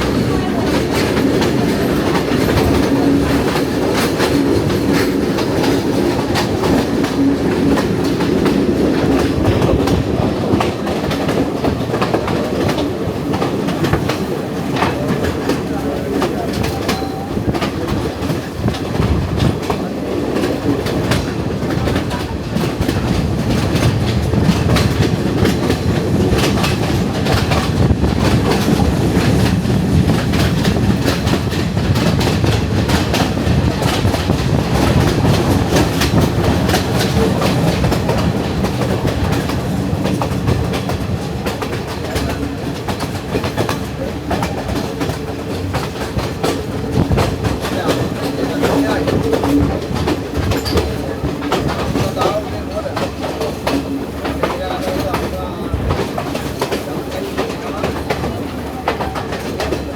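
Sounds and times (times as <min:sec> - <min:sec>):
train rumble from aboard: 0:00.0 - 0:59.9.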